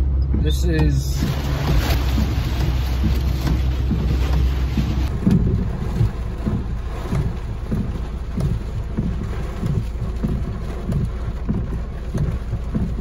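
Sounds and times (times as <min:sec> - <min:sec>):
heavy rain on car roof: 0:00.0 - 0:13.0.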